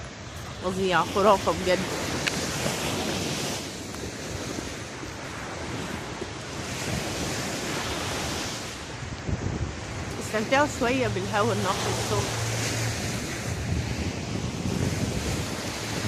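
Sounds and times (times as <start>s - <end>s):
sea waves breaking on sand: 0.0s - 16.0s
wind buffeting microphone: 0.0s - 16.0s.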